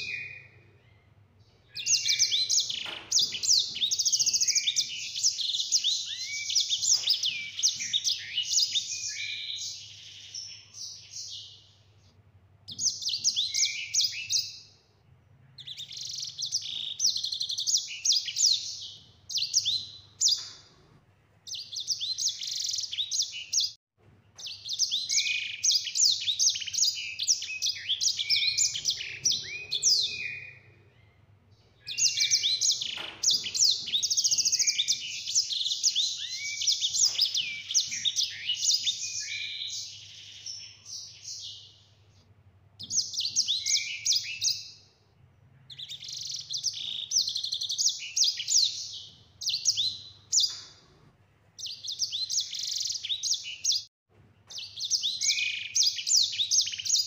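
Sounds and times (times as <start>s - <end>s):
finch singing trills: 0.0s - 11.7s, 12.7s - 14.8s, 15.5s - 20.8s, 24.4s - 41.8s, 42.8s - 44.9s, 45.6s - 50.9s, 51.6s - 53.9s, 54.5s - 57.0s.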